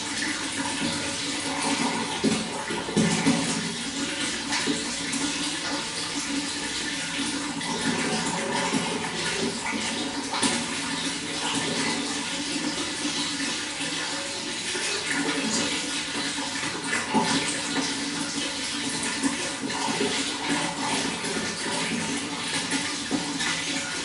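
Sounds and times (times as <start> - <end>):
running water splashing: 0.0 - 24.0.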